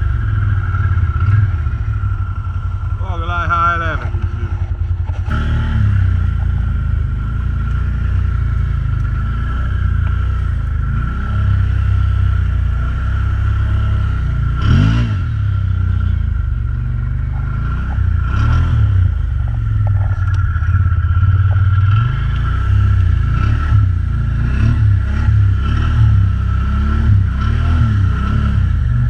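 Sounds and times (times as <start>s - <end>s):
atv engine revving: 0.0s - 29.0s
steady high whine: 5.3s - 29.0s.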